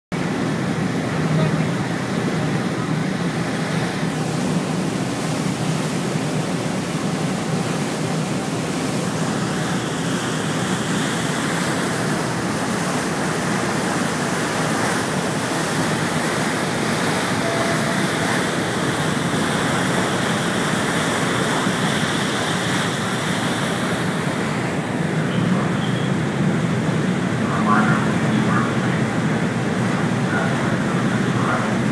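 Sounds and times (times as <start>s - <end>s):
water rushing: 0.1s - 31.9s.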